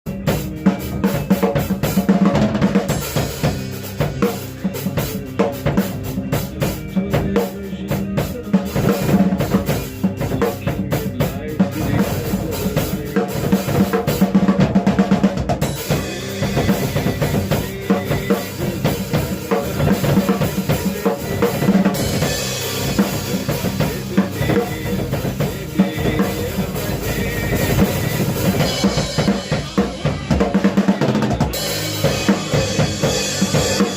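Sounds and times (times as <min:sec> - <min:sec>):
drum kit groove: 0:00.0 - 0:33.9.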